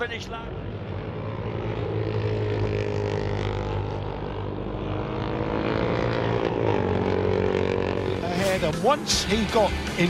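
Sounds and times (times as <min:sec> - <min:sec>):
motorcycle engines at high revs: 0:00.0 - 0:10.0.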